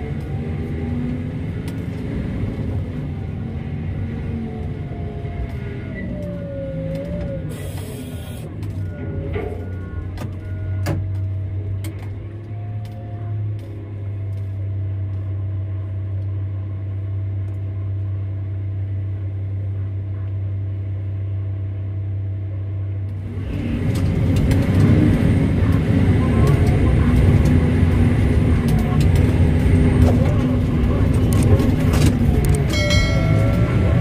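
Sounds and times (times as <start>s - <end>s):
diesel truck engine: 0.0s - 34.0s
road noise: 0.0s - 34.0s.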